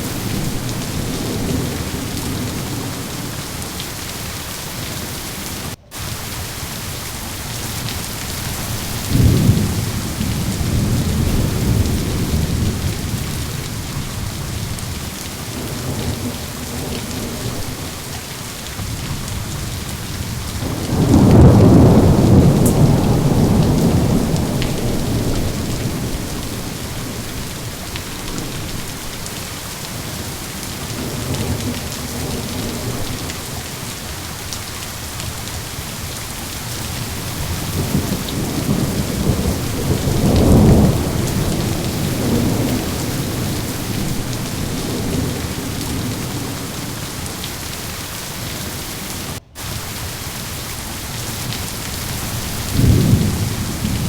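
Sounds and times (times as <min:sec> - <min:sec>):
rolling thunder: 0:00.0 - 0:04.9, 0:06.0 - 0:47.8, 0:51.3 - 0:54.0
heavy rain: 0:00.0 - 0:54.0.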